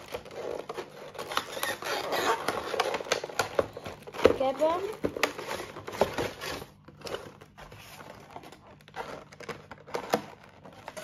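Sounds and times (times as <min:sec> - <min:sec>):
packaging crinkling and crackling: 0:00.0 - 0:11.0.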